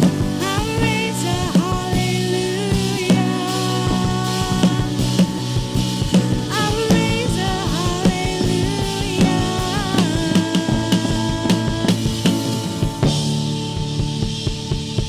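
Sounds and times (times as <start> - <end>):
band playing instrumental: 0.0 - 15.0
drum kit beat: 0.0 - 15.0.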